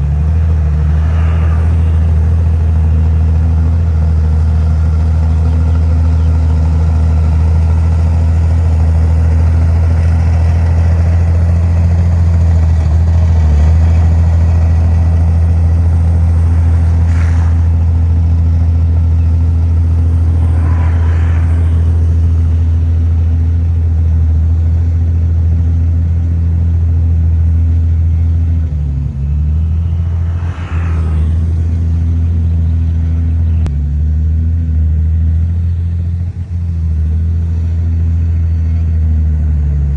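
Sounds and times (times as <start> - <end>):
large diesel engine running: 0.0 - 39.9.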